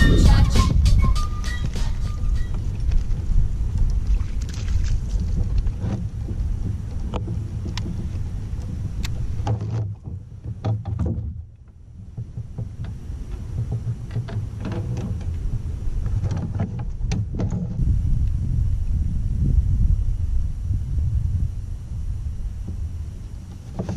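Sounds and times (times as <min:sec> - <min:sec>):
wind rumbling on microphone: 0:00.0 - 0:23.9.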